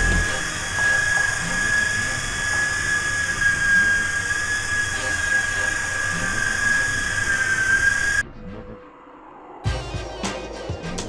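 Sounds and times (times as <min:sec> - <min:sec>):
rc helicopter high whine: 0:00.0 - 0:09.8.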